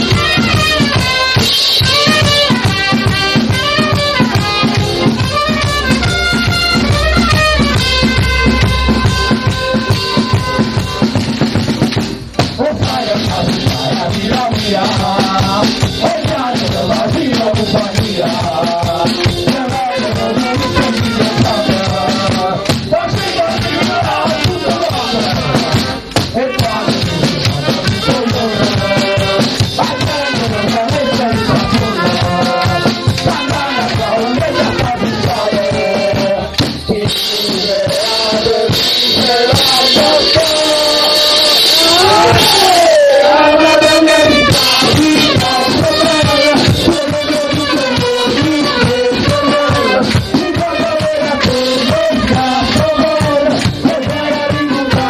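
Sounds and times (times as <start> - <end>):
accordions and trumpets melody: 0.0 - 55.0
bass drum and cymbal beat: 0.0 - 55.0
men singing along: 0.0 - 55.0.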